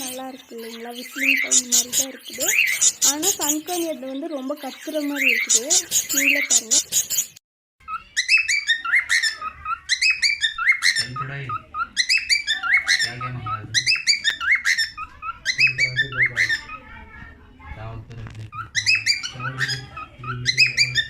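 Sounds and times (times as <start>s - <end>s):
parrot calling: 0.0s - 17.3s, 18.4s - 21.0s.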